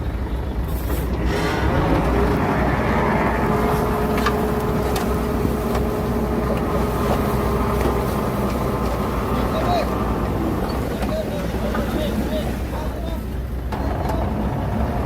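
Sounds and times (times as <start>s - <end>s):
diesel machinery engine running: 0.0s - 12.6s, 13.2s - 15.0s.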